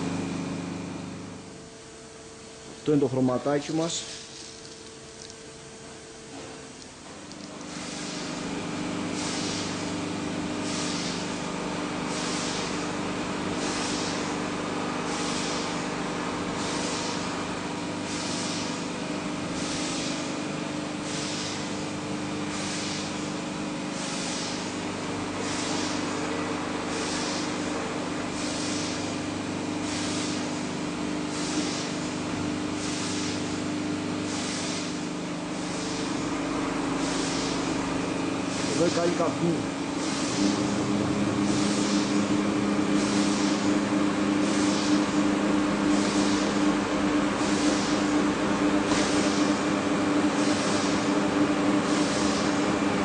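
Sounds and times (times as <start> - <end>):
machine humming: 0.0 - 53.0.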